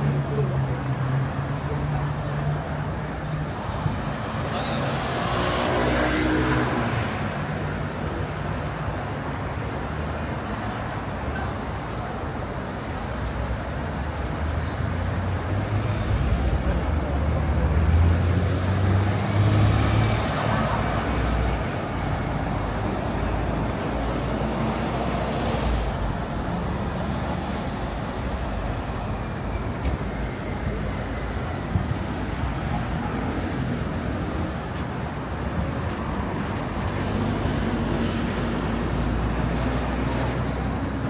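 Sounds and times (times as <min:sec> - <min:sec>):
road noise from passing vehicles: 0:00.0 - 0:41.0.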